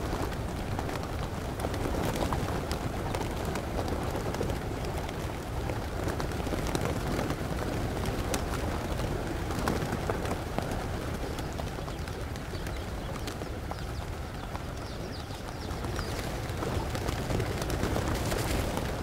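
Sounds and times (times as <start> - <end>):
wing flaps: 0.0 - 19.0.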